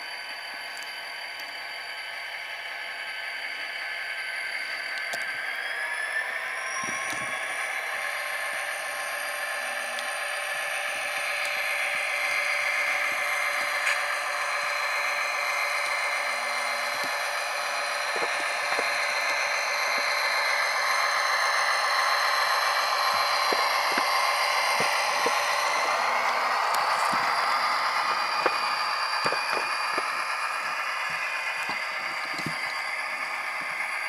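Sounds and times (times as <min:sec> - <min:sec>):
diesel engine sound through small speaker: 0:00.0 - 0:34.0.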